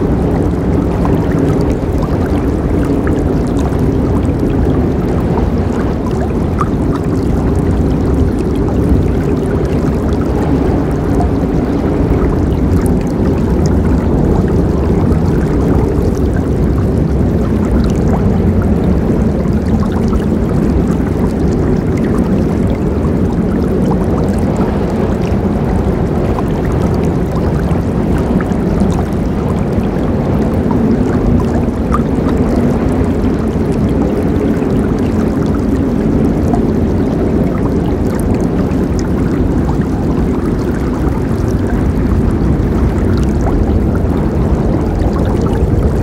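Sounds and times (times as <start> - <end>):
small water splashes: 0.0 - 46.0.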